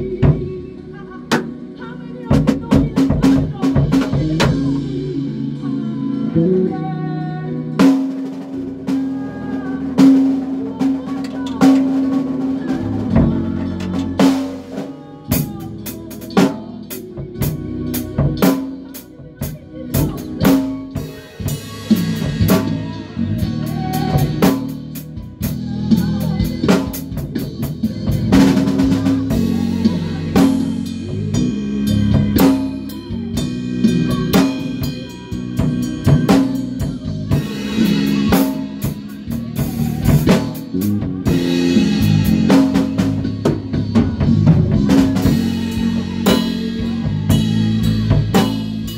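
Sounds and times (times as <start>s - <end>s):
band playing live: 0.0s - 48.9s
bass guitar line: 0.0s - 48.9s.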